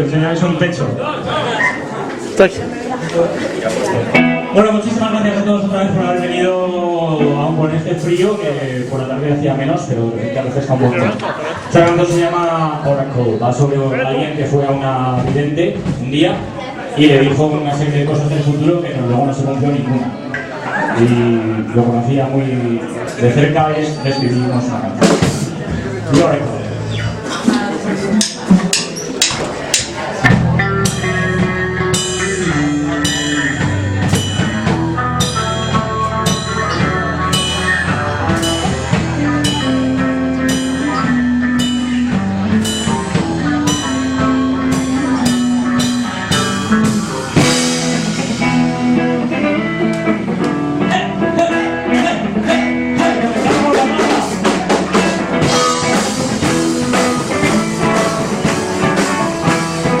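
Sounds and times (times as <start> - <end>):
live rock band playing: 1.5 - 60.0.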